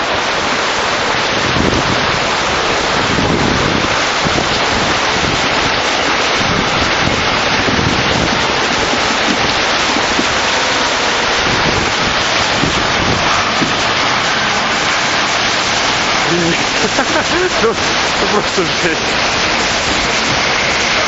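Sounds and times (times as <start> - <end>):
fast-flowing river water: 0.0 - 21.0
wind buffeting microphone: 0.1 - 21.0.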